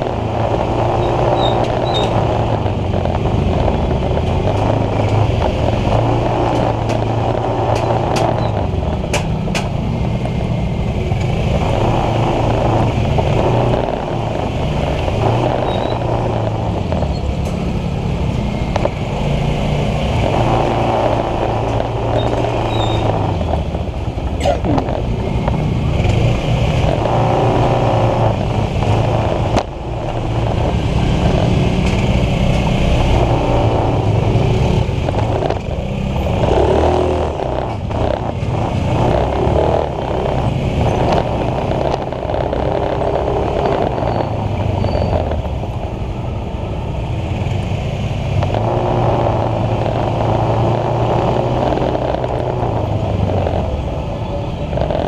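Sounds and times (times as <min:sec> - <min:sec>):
scooter and car traffic: 0:00.0 - 0:55.0
scooter engine running: 0:00.0 - 0:55.0.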